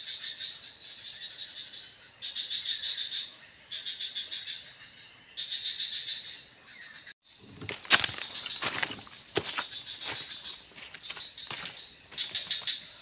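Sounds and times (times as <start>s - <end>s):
high insect chorus: 0.0s - 13.0s.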